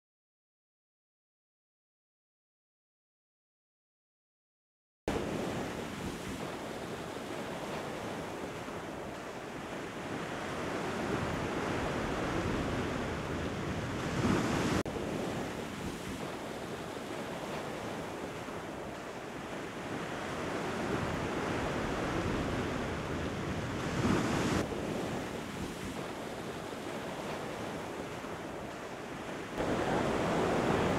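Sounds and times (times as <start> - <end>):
ocean surf breaking on beach: 5.1 - 30.9
wind buffeting microphone: 5.1 - 30.9.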